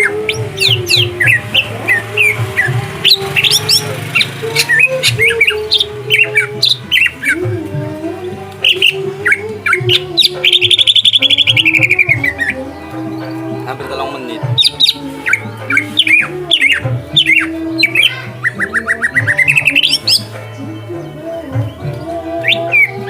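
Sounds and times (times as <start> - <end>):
bird chirping and whistling: 0.0 - 7.5, 8.6 - 13.5, 14.6 - 20.7, 21.6 - 23.0.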